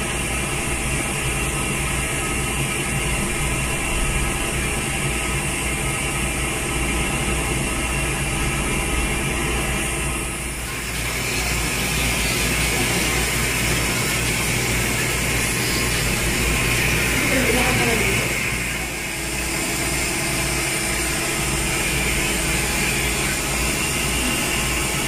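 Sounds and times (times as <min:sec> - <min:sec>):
dental equipment humming: 0:00.0 - 0:25.0.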